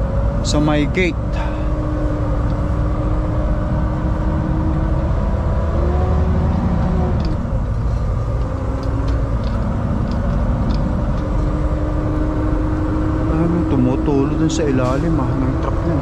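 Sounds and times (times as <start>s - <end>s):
diesel truck engine rumble: 0.0s - 16.0s.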